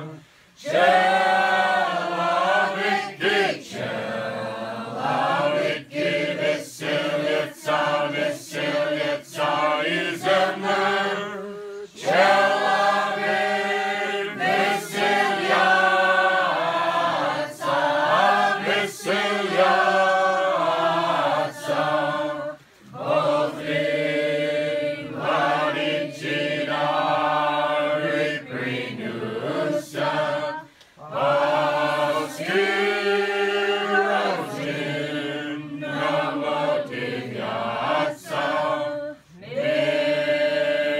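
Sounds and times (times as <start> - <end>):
choir singing a chant: 0.0 - 40.9.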